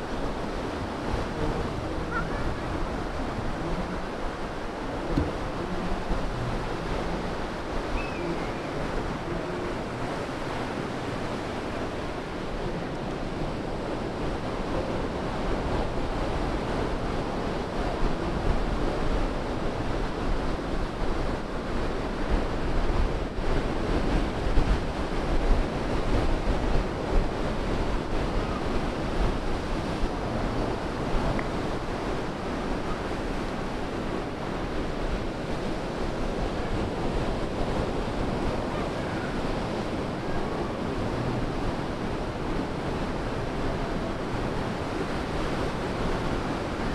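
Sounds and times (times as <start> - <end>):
surf breaking on sand: 0.0 - 46.9
wind buffeting microphone: 0.0 - 46.9.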